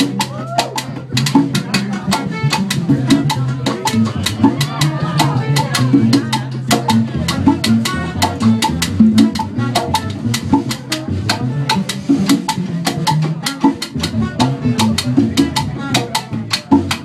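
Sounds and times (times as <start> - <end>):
drum and hand-percussion hits: 0.0 - 17.0
live salsa band: 0.0 - 17.0
upright bass line: 0.0 - 17.0.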